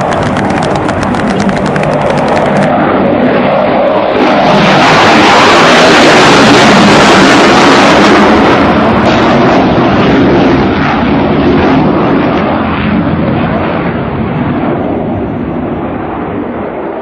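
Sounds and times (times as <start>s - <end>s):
aircraft engine roar: 0.0s - 17.0s.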